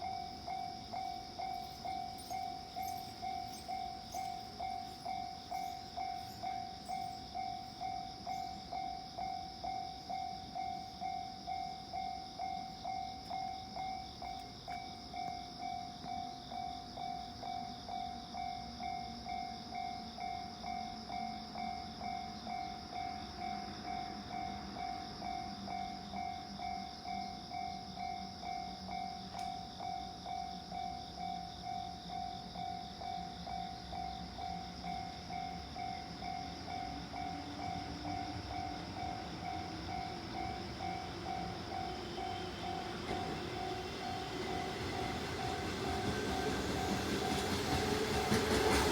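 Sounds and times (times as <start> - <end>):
level crossing warning bell: 0.0 - 48.4
low train rumble: 0.0 - 48.9.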